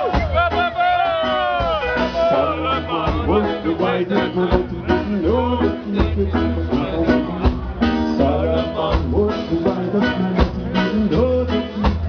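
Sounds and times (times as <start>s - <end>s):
bass line: 0.0s - 12.0s
live band playing: 0.0s - 12.0s
person singing lead vocal: 1.0s - 12.0s.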